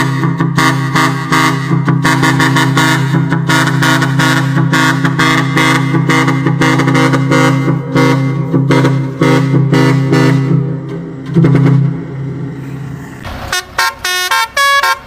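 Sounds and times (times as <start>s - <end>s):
musical truck air horn: 0.0s - 12.1s, 13.3s - 15.0s.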